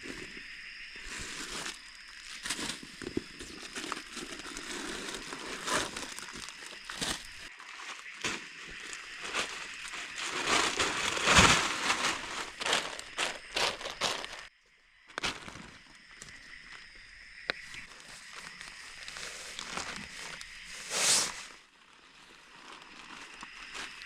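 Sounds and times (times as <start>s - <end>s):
crinkling and rustling: 1.0s - 14.5s, 17.5s - 24.0s.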